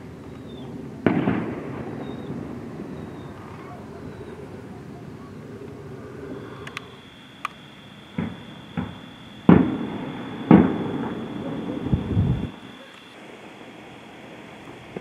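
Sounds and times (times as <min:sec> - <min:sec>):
distant fireworks booms: 0:00.0 - 0:15.0
fireworks cracks: 0:00.0 - 0:15.0
low background noise: 0:00.0 - 0:15.0.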